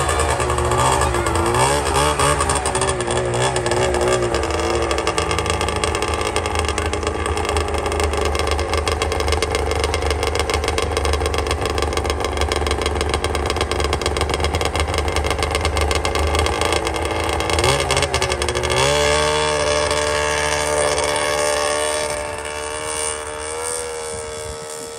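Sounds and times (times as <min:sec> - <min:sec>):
snowmobile engine running: 0:00.0 - 0:24.9.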